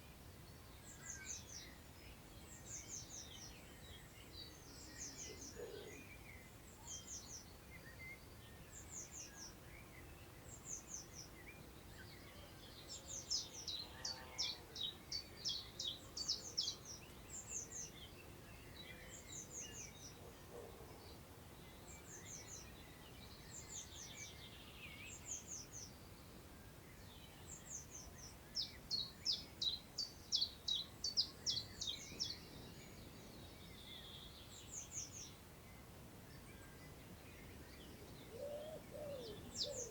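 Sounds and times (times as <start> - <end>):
soft outdoor hiss: 0.0 - 39.9
birds singing: 2.4 - 26.2, 26.8 - 39.9.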